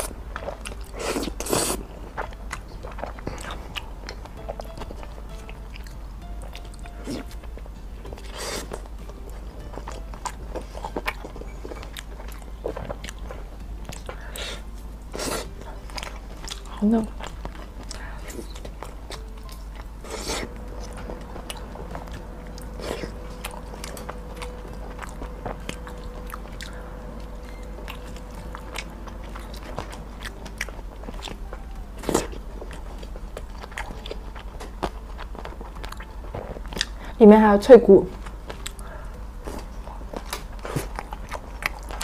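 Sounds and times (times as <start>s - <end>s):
chewing crunchy meatballs: 0.0s - 37.2s, 38.1s - 42.0s.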